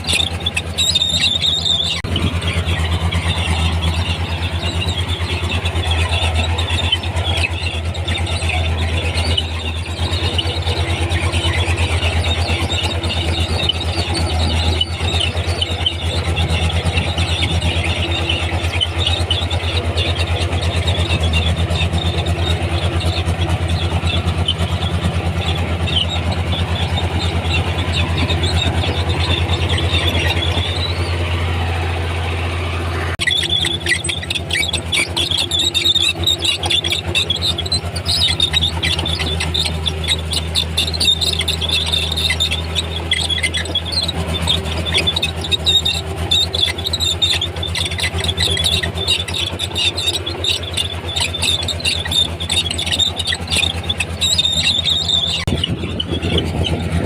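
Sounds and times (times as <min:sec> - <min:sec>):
diesel engine running: 0:00.0 - 0:57.0
steel tracks squealing: 0:00.0 - 0:57.0.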